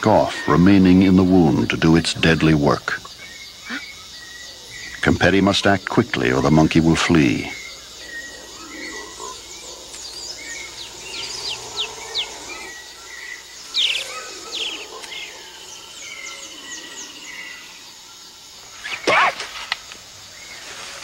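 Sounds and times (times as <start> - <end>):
bird chirps and calls: 0.0 - 19.5
high insect drone: 0.0 - 21.0.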